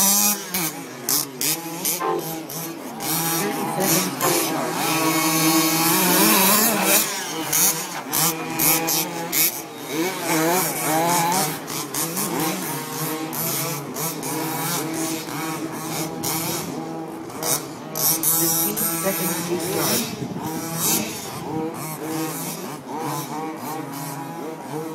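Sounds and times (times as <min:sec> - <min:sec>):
small two-stroke engines revving: 0:00.0 - 0:24.9.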